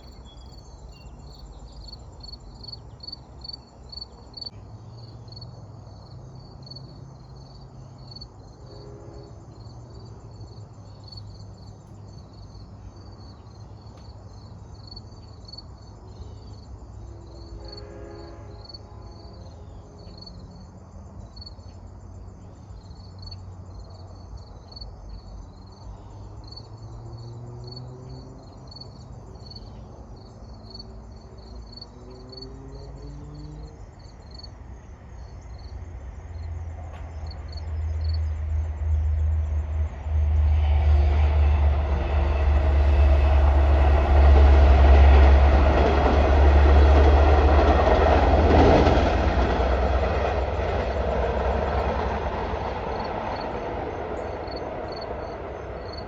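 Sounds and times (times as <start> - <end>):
crickets chirping: 0.0 - 56.0
diesel train rumble: 0.0 - 56.0
train wheel and rail noise: 0.0 - 56.0.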